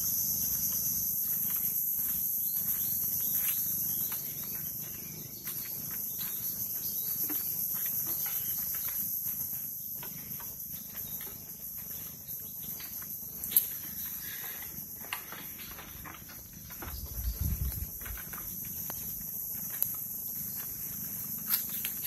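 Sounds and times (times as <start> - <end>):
footsteps on bamboo walkway: 0.0 - 22.0
high-pitched insect drone: 0.0 - 22.0.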